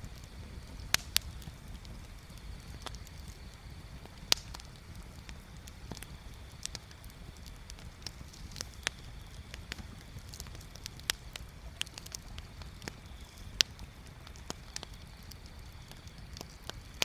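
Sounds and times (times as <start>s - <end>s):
bonfire crackling and popping: 0.0s - 17.0s
low fire rumble: 0.0s - 17.0s.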